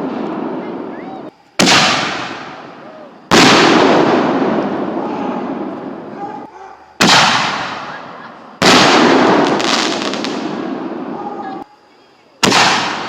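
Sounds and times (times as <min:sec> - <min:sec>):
fireworks bangs with rumbling echo: 0:00.0 - 0:06.2, 0:06.9 - 0:11.7, 0:12.4 - 0:13.0
fireworks crackling: 0:00.0 - 0:06.2, 0:06.9 - 0:13.0.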